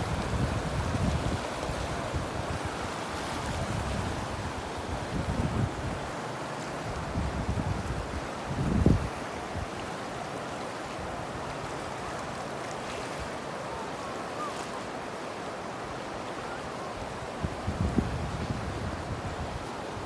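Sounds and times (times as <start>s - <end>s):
rushing floodwater: 0.0s - 20.0s.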